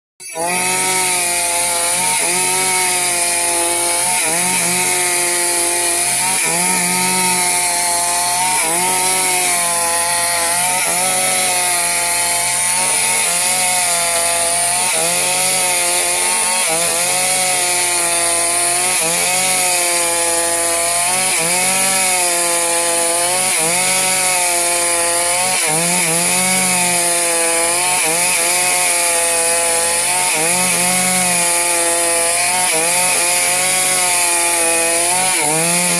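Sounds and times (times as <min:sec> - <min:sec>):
chainsaw cutting wood: 0:00.2 - 0:35.9.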